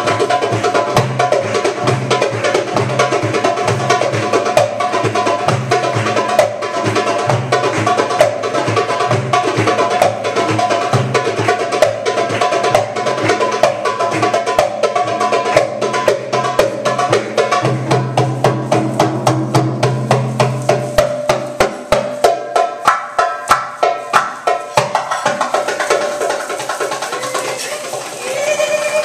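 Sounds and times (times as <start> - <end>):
hand drums playing fast solo: 0.0 - 29.0.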